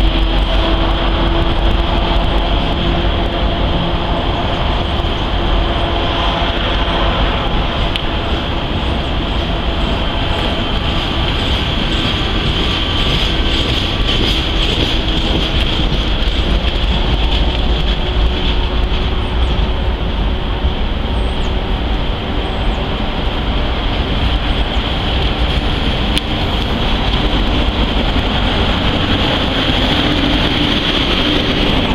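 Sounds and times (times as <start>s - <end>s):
train wheels rumbling on track: 0.0s - 31.9s.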